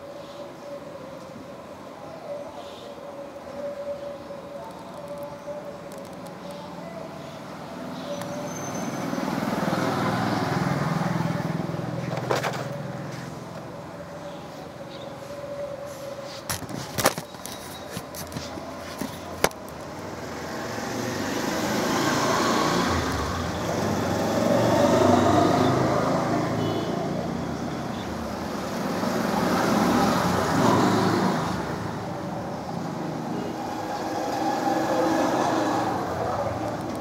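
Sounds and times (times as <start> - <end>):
road traffic passing: 0.0 - 37.0.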